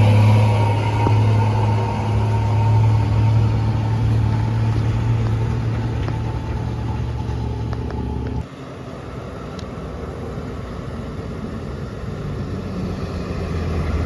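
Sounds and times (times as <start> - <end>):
truck diesel engine labouring: 0.0 - 14.0.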